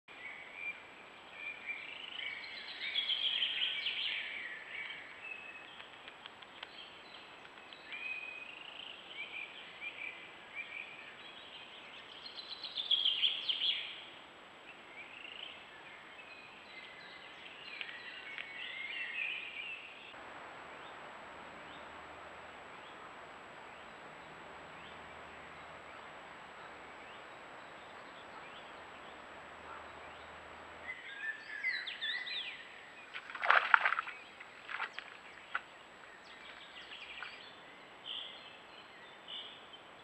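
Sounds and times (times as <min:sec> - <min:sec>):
forest birds singing: 0:00.1 - 0:40.0.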